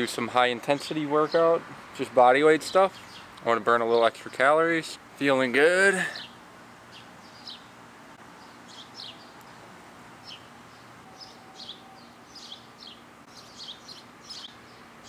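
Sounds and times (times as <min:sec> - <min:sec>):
birds chirping: 0:00.0 - 0:15.0
faint steady background noise: 0:00.0 - 0:15.0.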